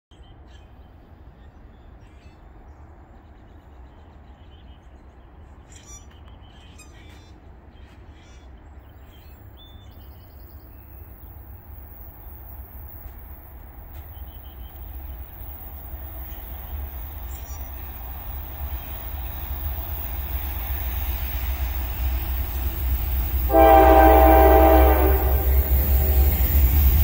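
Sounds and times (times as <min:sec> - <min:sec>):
songbirds chirping: 0:00.1 - 0:27.0.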